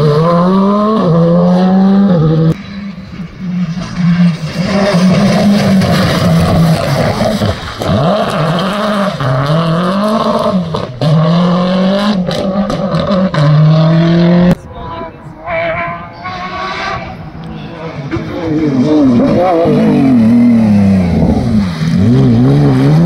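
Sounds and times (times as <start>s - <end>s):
rally car engine revving: 0.0s - 14.7s, 15.4s - 23.0s.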